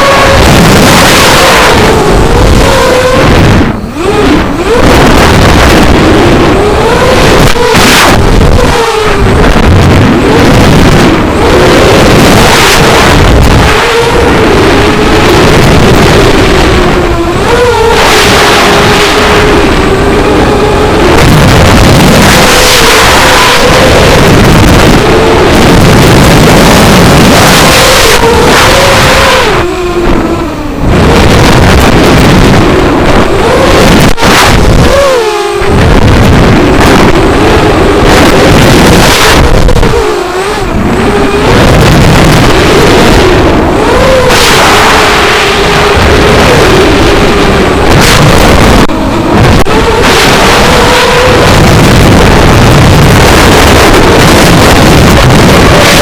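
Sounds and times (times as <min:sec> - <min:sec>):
quadcopter motors whining: 0:00.0 - 0:56.0
rush of air noise: 0:00.0 - 0:56.0.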